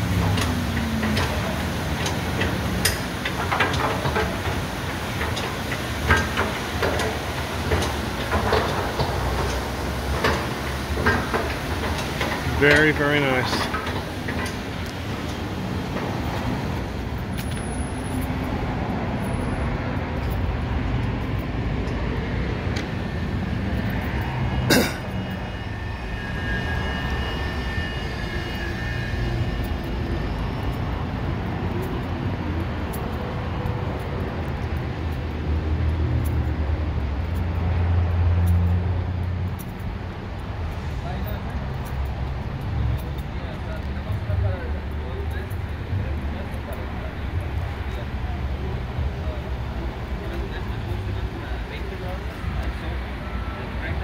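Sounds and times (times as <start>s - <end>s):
car engines and tyres rumbling: 0.0s - 54.0s.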